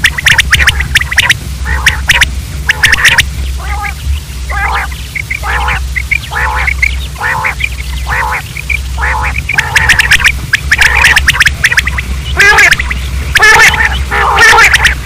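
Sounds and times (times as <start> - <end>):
quail calling: 0.0 - 15.0
steady low hum: 0.0 - 15.0.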